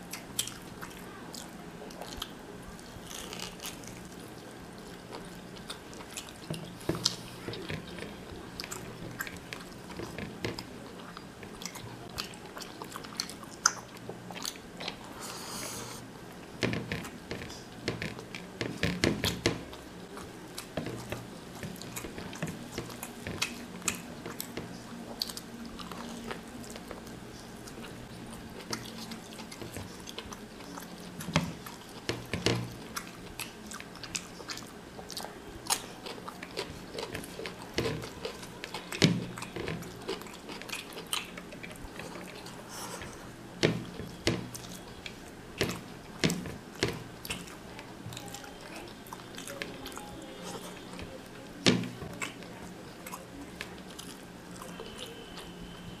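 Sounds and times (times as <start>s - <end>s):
person chewing: 0.0s - 55.8s
faint low hum: 0.0s - 56.0s
fingers working food on paper plate: 2.0s - 55.3s.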